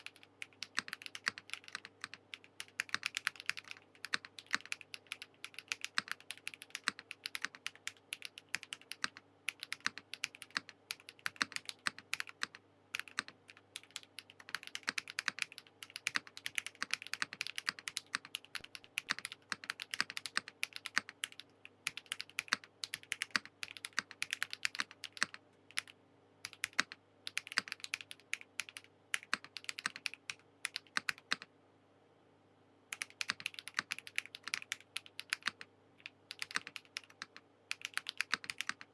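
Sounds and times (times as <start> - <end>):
fast mechanical keyboard typing: 0.0 - 31.5, 32.9 - 38.9.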